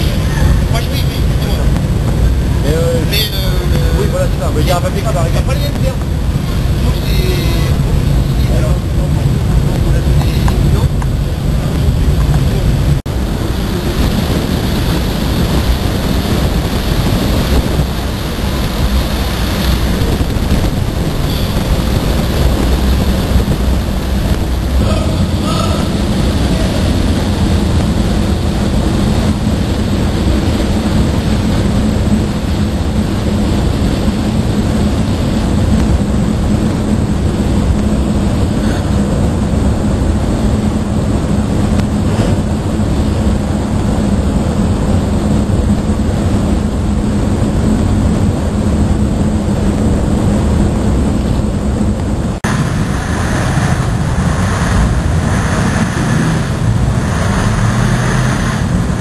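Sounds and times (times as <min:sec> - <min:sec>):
heavy engines droning: 0:00.0 - 0:59.0.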